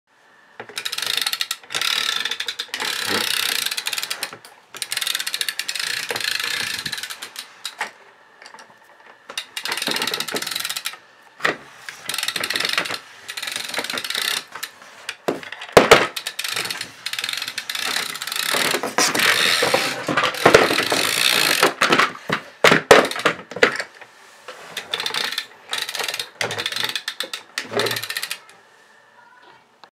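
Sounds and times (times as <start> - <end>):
toy wheels clattering: 0.6 - 28.6.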